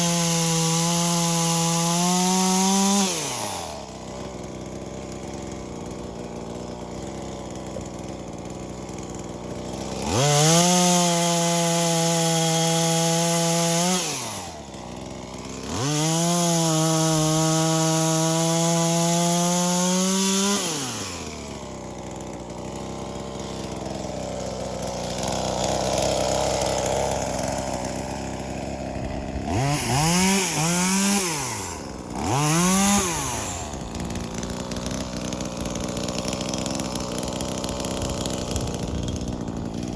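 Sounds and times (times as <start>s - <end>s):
chainsaw cutting wood: 0.0s - 39.9s
chainsaw idling and revving: 0.0s - 39.9s.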